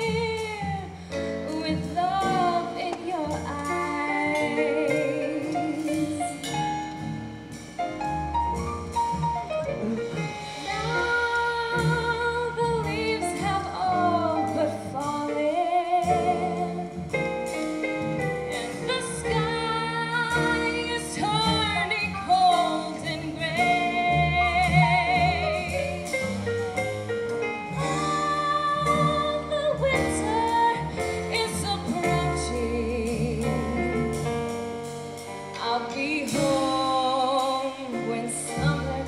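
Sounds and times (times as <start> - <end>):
instrumental accompaniment: 0.0 - 39.0.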